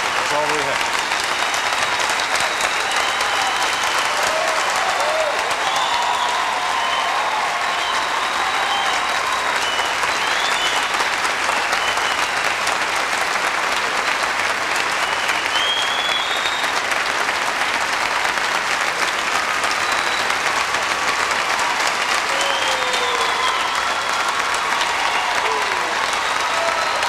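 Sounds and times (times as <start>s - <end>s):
audience applauding: 0.0s - 27.0s.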